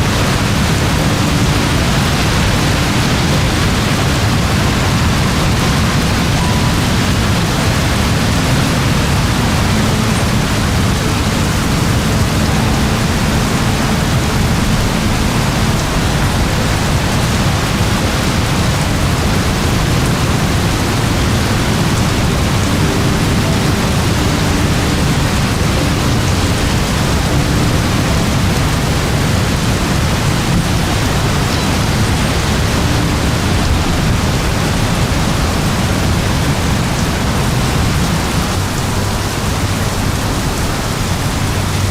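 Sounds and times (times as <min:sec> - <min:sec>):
deep low rumble: 0:00.0 - 0:41.9
heavy rain downpour: 0:00.0 - 0:41.9.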